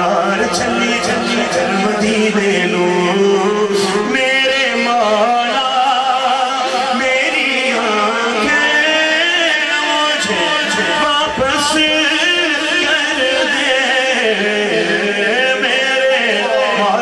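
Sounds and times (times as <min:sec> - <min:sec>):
man singing through loudspeaker: 0:00.0 - 0:17.0.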